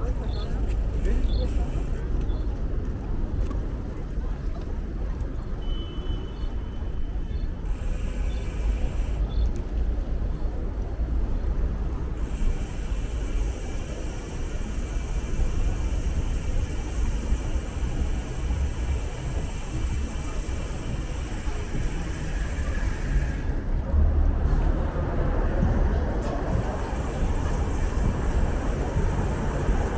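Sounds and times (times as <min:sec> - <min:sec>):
city traffic rumble: 0:00.0 - 0:29.9.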